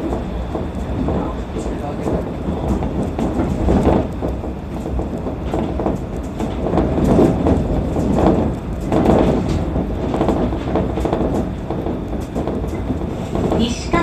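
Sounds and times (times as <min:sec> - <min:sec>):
knocks and rattles: 0:00.0 - 0:14.0
monorail car running rumble: 0:00.0 - 0:14.0.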